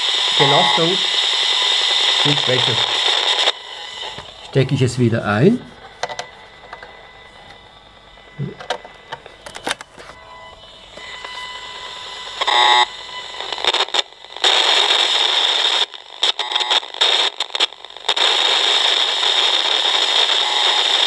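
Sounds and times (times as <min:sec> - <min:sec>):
loudspeaker hiss and crackle: 0:00.0 - 0:09.5, 0:10.8 - 0:21.0.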